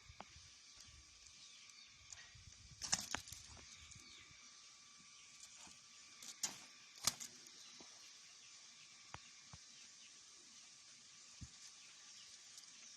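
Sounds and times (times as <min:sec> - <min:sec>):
faint steady hiss: 0:00.0 - 0:12.9.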